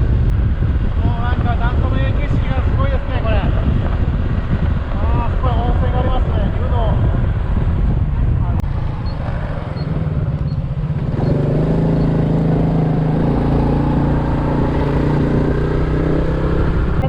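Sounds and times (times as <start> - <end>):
motorcycle engine running: 0.0 - 17.0
road noise: 0.0 - 17.0
wind noise: 0.0 - 17.0.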